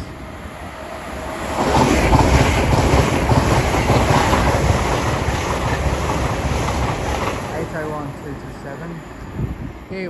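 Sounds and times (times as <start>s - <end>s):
electric train passing at speed: 0.0s - 10.0s.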